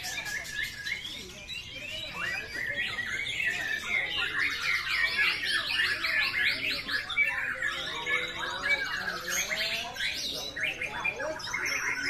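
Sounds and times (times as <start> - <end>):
bird song chirping and trilling: 0.0 - 12.0.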